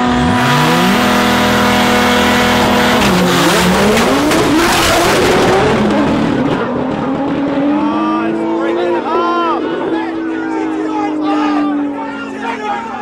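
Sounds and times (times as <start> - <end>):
race cars revving and accelerating: 0.0 - 13.0.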